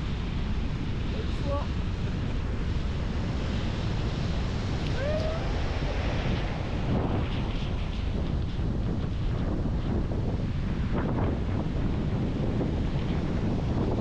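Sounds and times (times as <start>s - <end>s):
sea waves breaking on beach: 0.0s - 14.0s
wind buffeting microphone: 0.0s - 14.0s.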